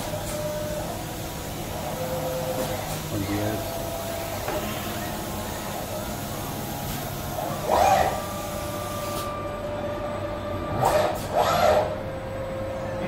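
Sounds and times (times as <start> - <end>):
constant hall hum: 0.0 - 13.0
robot arm machine whine: 0.0 - 13.0.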